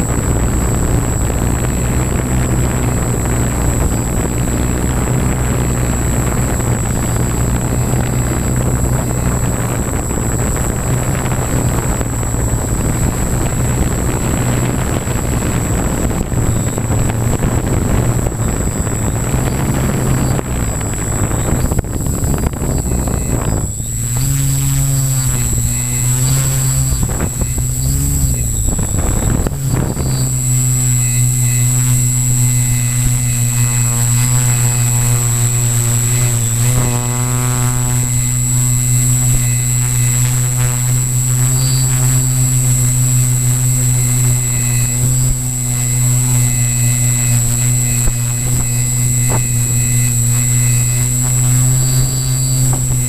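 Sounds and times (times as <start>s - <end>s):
drone propellers humming: 0.0s - 53.0s
high whine: 0.0s - 53.0s.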